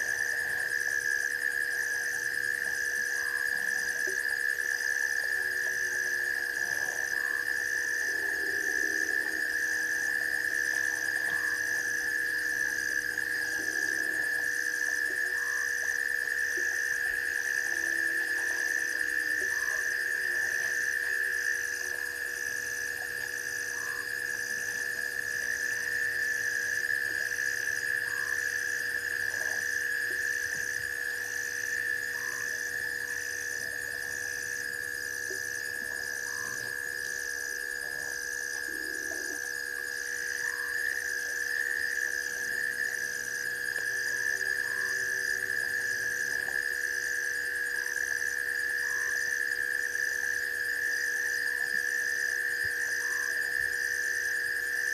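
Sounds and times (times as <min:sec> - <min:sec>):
high trilling of frogs and insects: 0:00.0 - 0:54.9.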